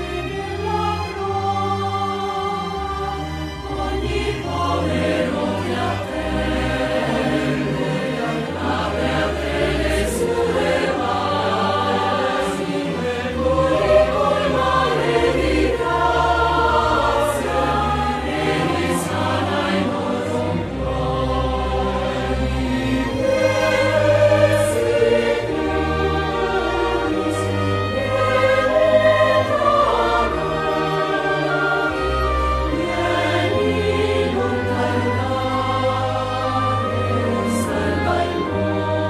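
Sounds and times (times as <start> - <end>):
choir singing long notes: 0.0 - 39.0
instrumental accompaniment: 0.0 - 39.0.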